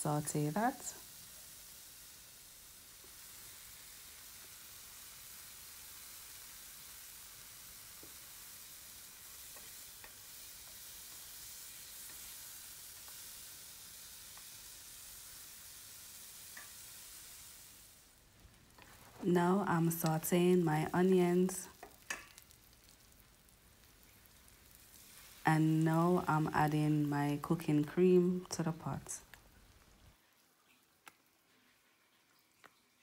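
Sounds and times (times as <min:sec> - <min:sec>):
vegetables sizzling in a frying pan: 0:00.0 - 0:30.2.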